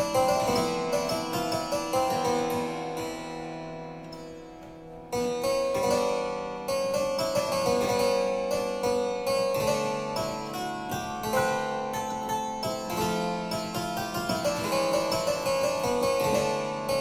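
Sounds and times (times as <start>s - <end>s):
upright harpsichord playing: 0.0s - 17.0s.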